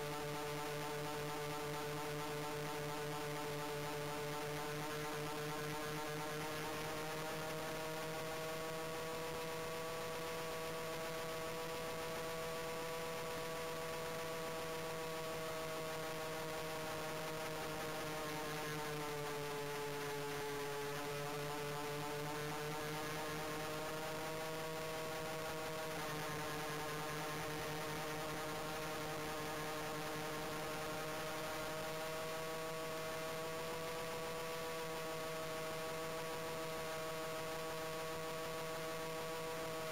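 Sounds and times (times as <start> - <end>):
model plane propellers droning: 0.0 - 39.9.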